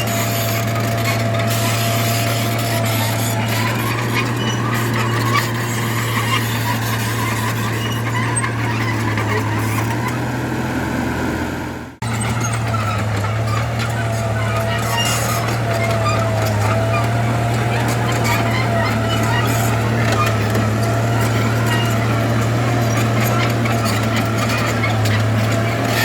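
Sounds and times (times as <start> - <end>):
machine clatter and squeal: 0.0 - 10.5, 11.9 - 26.0
diesel engine hum: 0.0 - 26.0.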